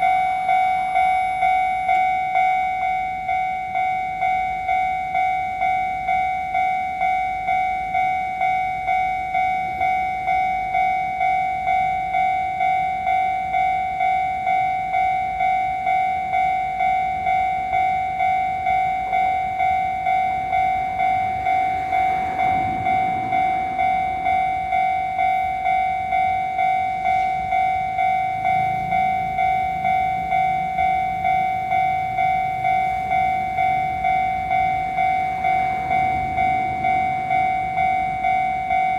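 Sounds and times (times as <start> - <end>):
faint train rumble: 0.0 - 38.9
level-crossing alarm bell: 0.0 - 38.9.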